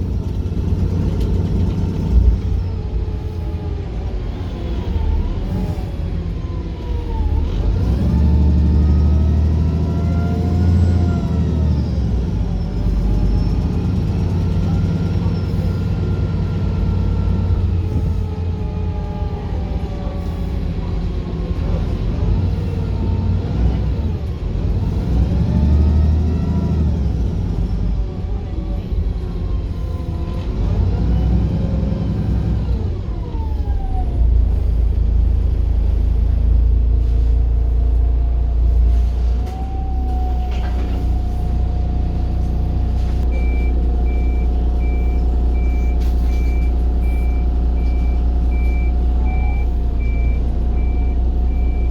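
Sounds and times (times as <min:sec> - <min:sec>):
bus engine running: 0:00.0 - 0:51.9.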